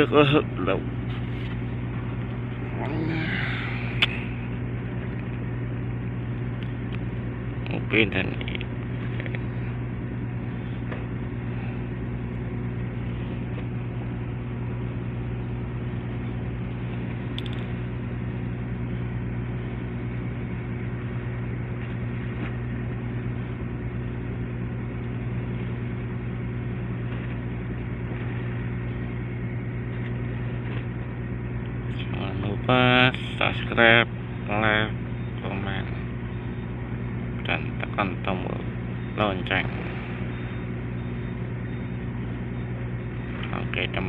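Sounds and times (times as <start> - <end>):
low engine drone: 0.0 - 44.0.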